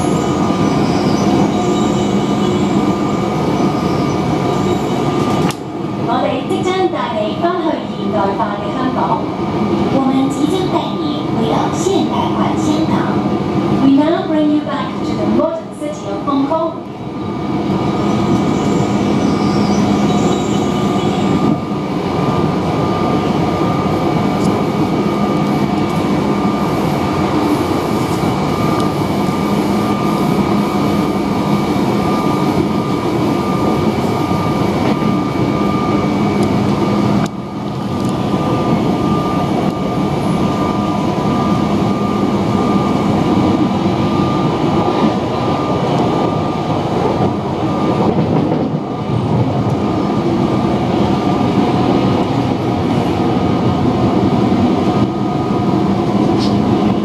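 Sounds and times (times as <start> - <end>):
constant whine: 0.0 - 57.0
train running rumble: 0.0 - 57.0.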